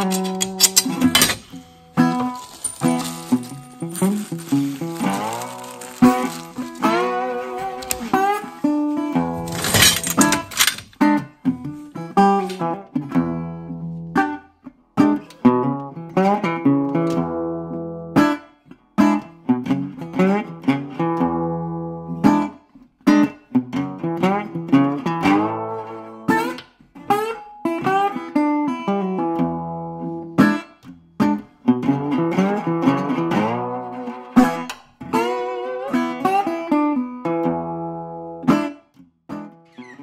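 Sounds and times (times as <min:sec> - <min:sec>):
acoustic guitar music: 0:00.0 - 0:40.0.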